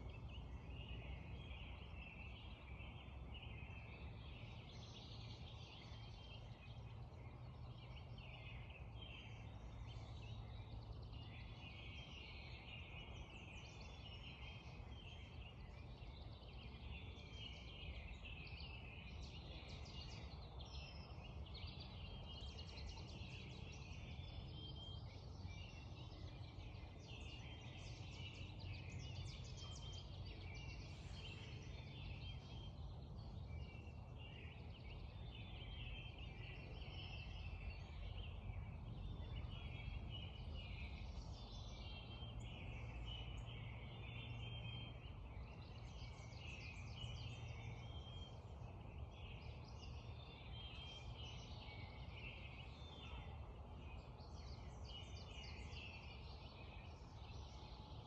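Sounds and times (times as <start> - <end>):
birds calling and singing: 0.0 - 58.0.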